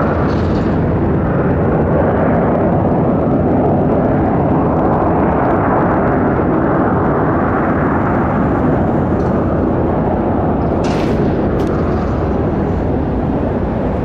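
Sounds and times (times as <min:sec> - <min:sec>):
low jet engine rumble: 0:00.0 - 0:14.0.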